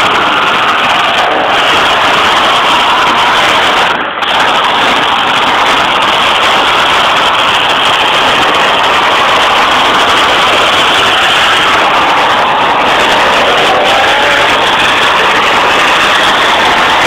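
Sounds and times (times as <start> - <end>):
truck engines roaring: 0.0 - 17.0.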